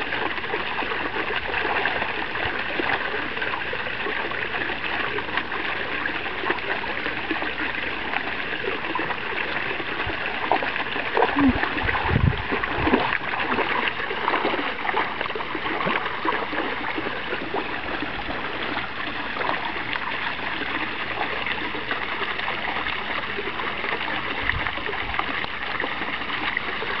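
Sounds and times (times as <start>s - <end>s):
fountain splashing into water: 0.0s - 27.0s
puppy sloshing through water: 0.0s - 27.0s.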